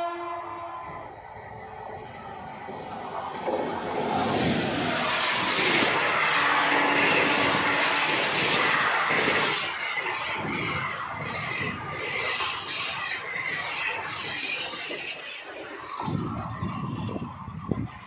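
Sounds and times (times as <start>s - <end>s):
train wheels rushing on rails: 0.8s - 18.0s.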